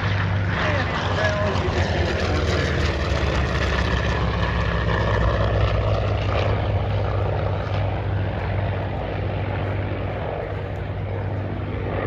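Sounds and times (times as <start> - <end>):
propeller planes droning past: 0.0 - 12.0.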